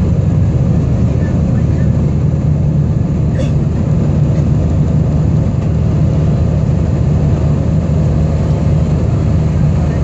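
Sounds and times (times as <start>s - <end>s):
jet engines low rumble in cabin: 0.0s - 10.0s.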